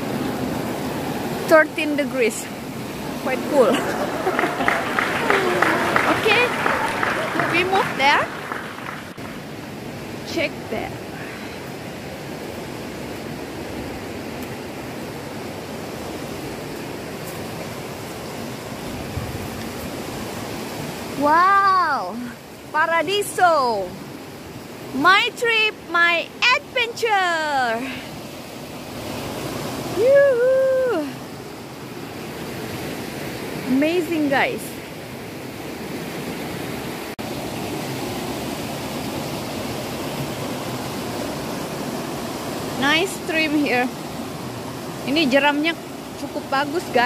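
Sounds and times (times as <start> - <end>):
river rapids rushing: 0.0 - 47.0.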